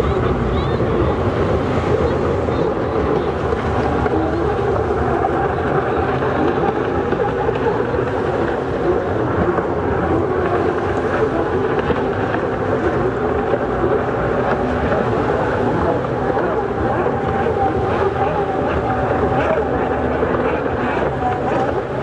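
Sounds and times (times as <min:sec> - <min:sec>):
jet ski engines droning: 0:00.0 - 0:22.0
wind on microphone: 0:00.0 - 0:22.0.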